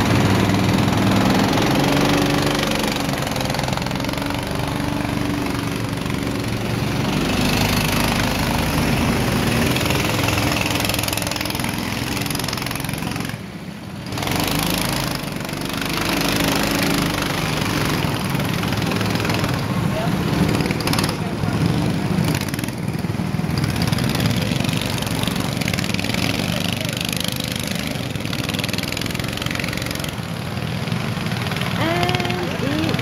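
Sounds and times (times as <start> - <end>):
go-kart engines idling and revving: 0.0 - 33.0.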